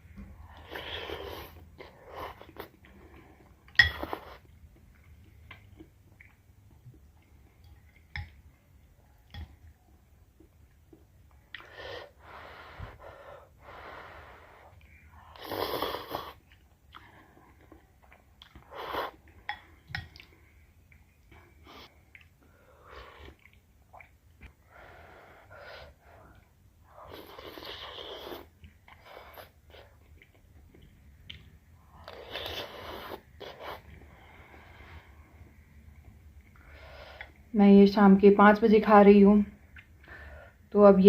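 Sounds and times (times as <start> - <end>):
soft chewing: 0.0 - 12.2, 14.3 - 37.5, 39.6 - 40.3.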